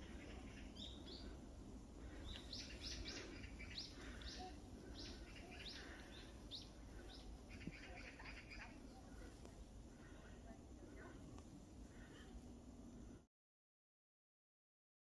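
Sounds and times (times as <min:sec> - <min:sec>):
low steady rumble: 0:00.0 - 0:13.2
small birds chirping: 0:00.0 - 0:13.2.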